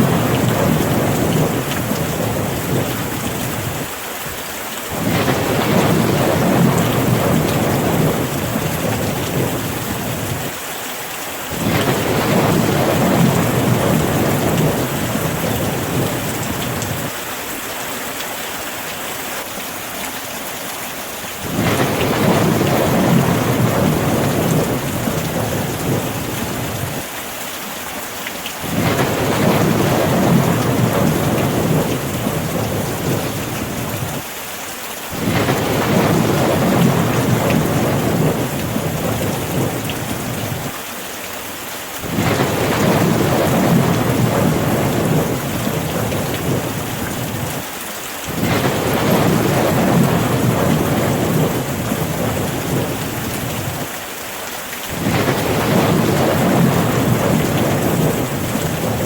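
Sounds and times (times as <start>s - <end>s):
thunder rumbling: 0.0s - 3.9s, 4.9s - 10.5s, 11.5s - 17.1s, 21.4s - 27.1s, 28.6s - 34.2s, 35.1s - 40.8s, 42.0s - 47.6s, 48.3s - 53.9s, 54.9s - 59.0s
steady rain: 0.0s - 59.0s.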